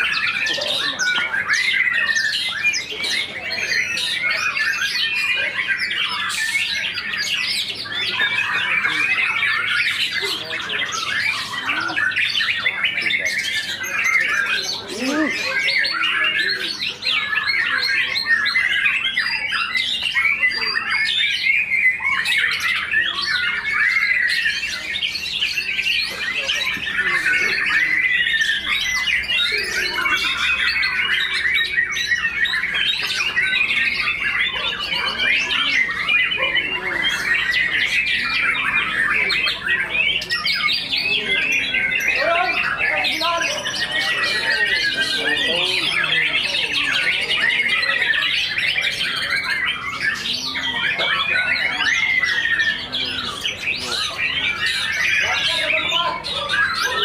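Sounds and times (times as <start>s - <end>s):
birds singing rapid chirps: 0.0s - 57.0s.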